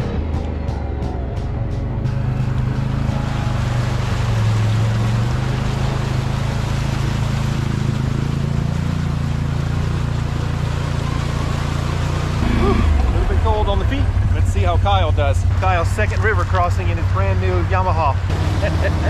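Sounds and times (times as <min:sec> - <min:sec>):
atv engine running: 0:00.0 - 0:19.0
wheels splashing through water: 0:02.1 - 0:19.0.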